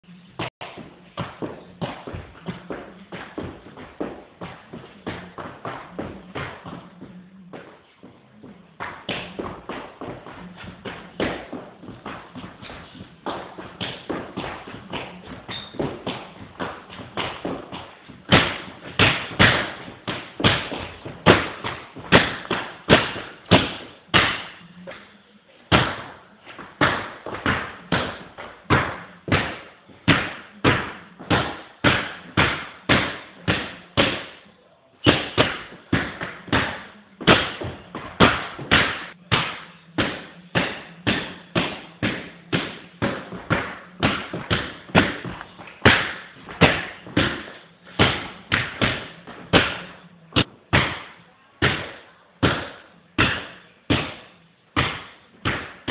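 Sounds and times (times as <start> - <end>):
basketball bouncing on hardwood floor: 0.4 - 7.8, 8.4 - 25.0, 25.7 - 34.4, 35.0 - 55.9.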